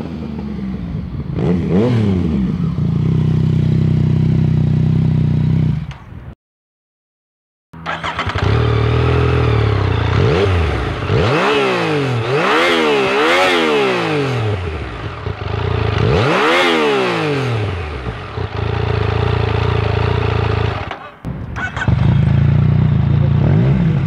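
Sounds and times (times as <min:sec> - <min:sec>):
motorcycle engine idling and revving: 0:00.0 - 0:06.4, 0:07.8 - 0:24.0.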